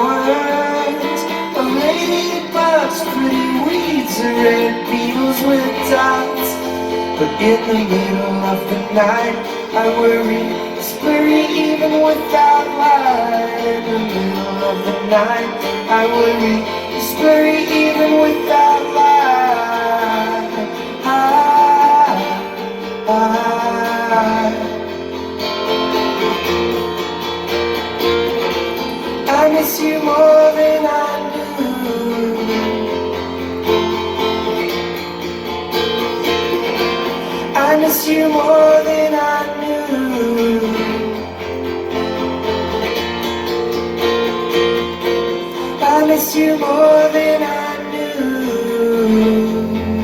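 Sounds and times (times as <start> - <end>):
person singing: 0.0 - 50.0
strummed acoustic guitar: 0.0 - 50.0.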